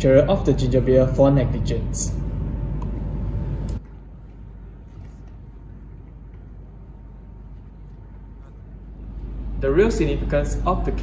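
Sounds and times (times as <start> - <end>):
room tone hum and hiss: 0.0 - 11.0.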